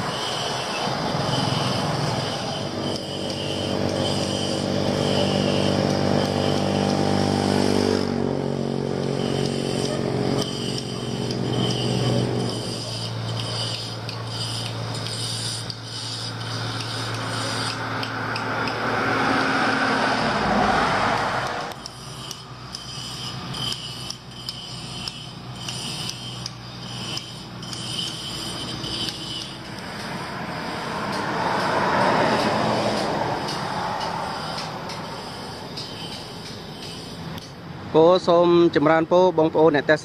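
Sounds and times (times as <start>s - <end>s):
vehicles passing: 0.0s - 40.0s.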